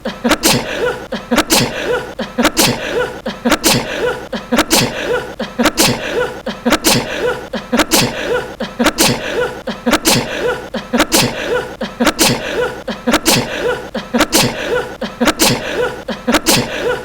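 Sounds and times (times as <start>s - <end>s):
man sneezing: 0.0s - 17.0s.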